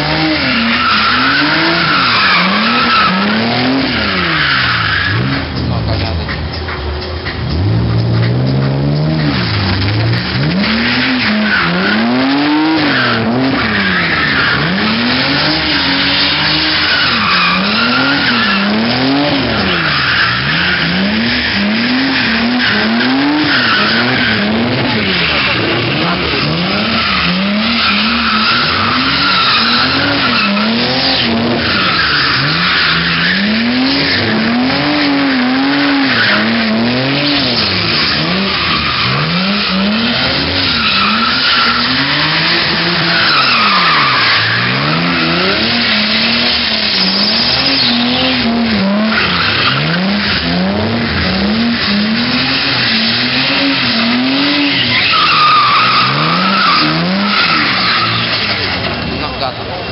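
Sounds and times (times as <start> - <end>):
car engine revving: 0.0 - 59.9
tyres squealing and screeching: 0.0 - 59.9.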